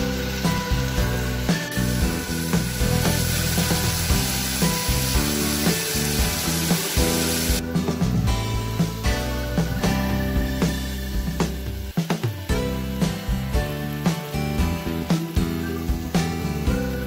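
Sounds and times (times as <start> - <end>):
food sizzling in a pan: 0.0 - 7.7, 8.4 - 17.0
background music: 0.0 - 17.0.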